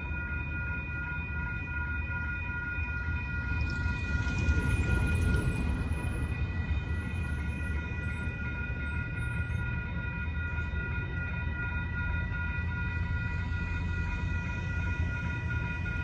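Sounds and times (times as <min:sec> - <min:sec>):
freight train rumbling: 0:00.0 - 0:16.0
railroad crossing bell ringing: 0:00.0 - 0:16.0.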